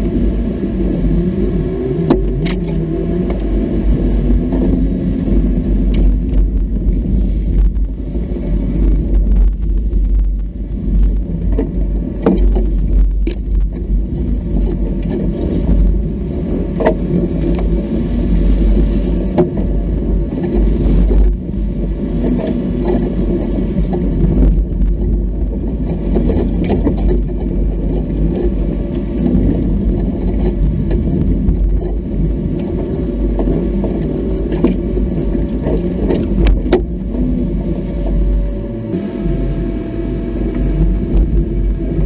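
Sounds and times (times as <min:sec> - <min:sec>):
off-road vehicle rumbling: 0:00.0 - 0:42.0.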